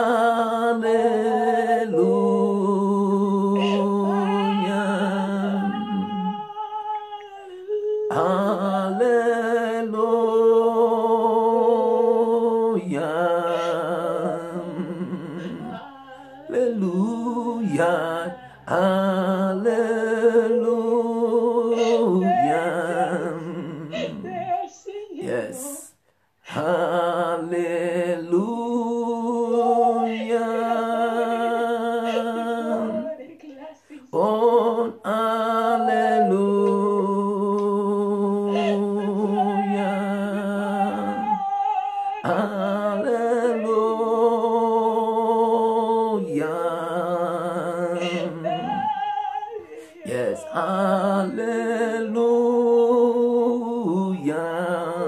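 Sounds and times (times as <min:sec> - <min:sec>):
person singing a worship chant: 0:00.0 - 0:55.0.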